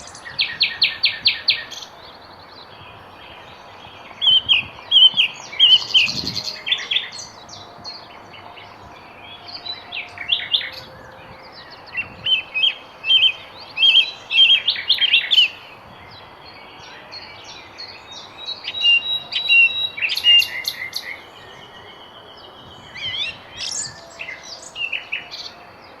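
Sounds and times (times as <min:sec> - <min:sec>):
songbirds chirping and singing: 0:00.0 - 0:26.0.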